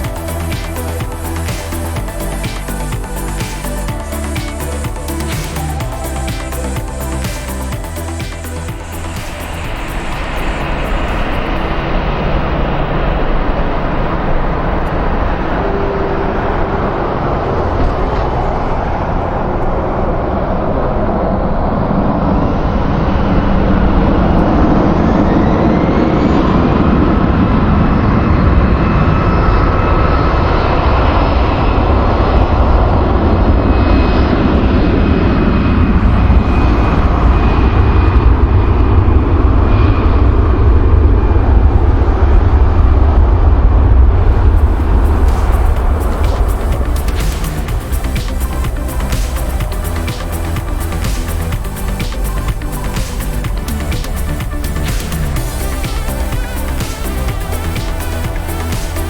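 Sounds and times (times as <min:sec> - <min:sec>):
jet engines rumbling: 0:00.0 - 0:59.0
thin whine rising in pitch: 0:00.0 - 0:59.0.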